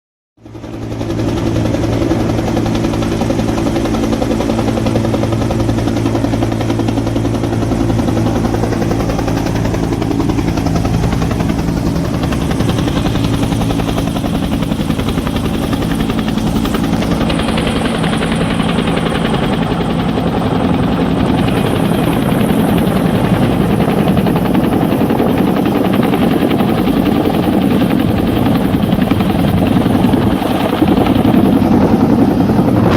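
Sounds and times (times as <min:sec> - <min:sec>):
helicopter running: 0:00.4 - 0:32.9.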